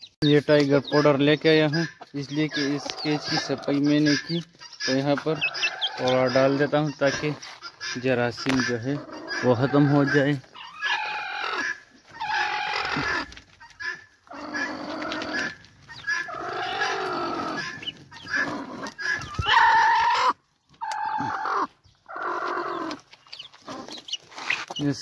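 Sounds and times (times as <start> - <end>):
hen calling: 0.0 - 25.0.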